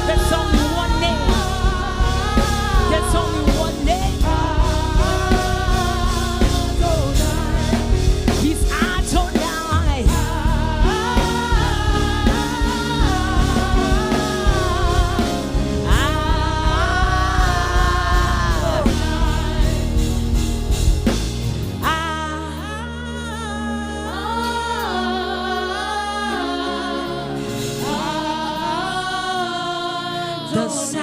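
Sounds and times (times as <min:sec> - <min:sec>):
gospel worship music with band: 0:00.0 - 0:31.0.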